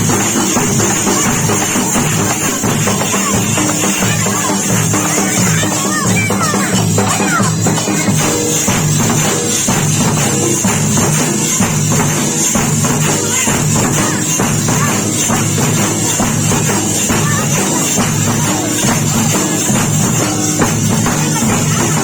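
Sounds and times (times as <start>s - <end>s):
drums beating fast rhythm: 0.0s - 22.0s
jingling rattle: 0.0s - 22.0s.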